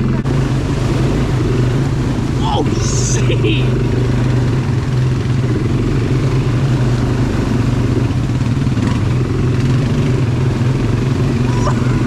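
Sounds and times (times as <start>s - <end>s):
engine running with rattle: 0.0s - 12.0s.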